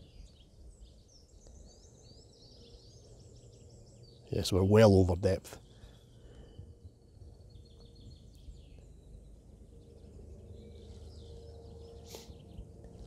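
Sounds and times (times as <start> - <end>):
bird chirps: 0.0 - 13.0
low outdoor rumble: 0.0 - 13.0.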